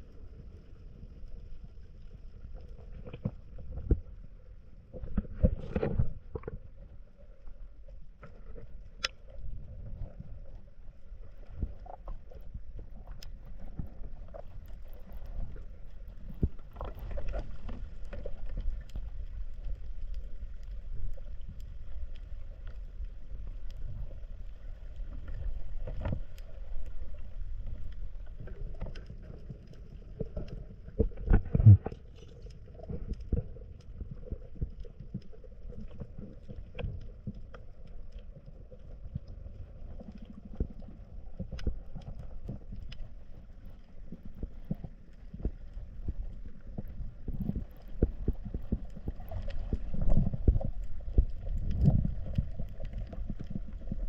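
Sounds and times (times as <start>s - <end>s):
muffled water movement: 0.0s - 54.0s.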